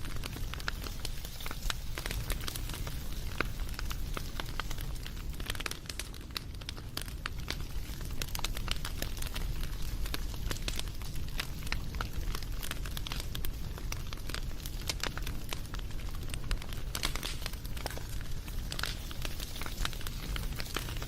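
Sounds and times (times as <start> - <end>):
campfire pops and snaps: 0.0 - 21.0
low rumble of burning wood: 0.0 - 21.0.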